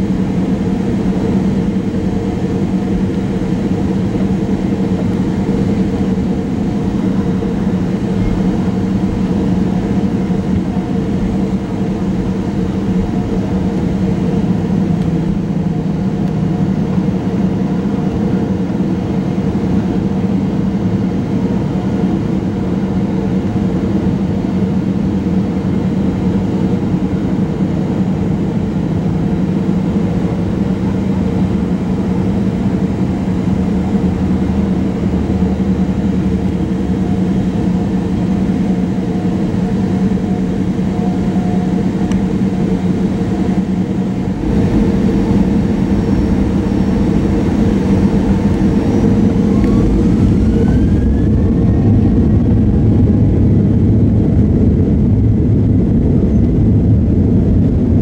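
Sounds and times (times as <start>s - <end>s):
jet engines and cabin air drone: 0.0s - 58.0s.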